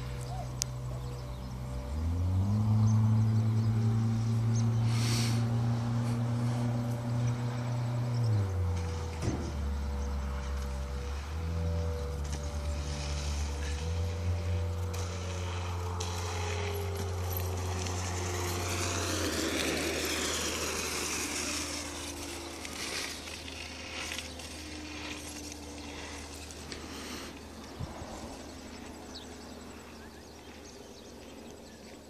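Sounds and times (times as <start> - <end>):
low hum: 0.0 - 32.0
wheels rolling over asphalt: 0.0 - 32.0.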